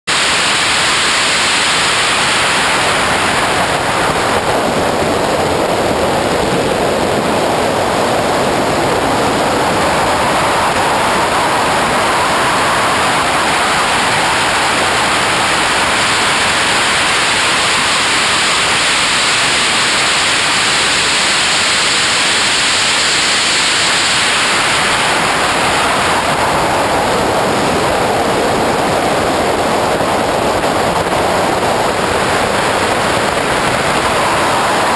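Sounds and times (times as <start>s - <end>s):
wind rushing over camera: 0.1s - 34.9s.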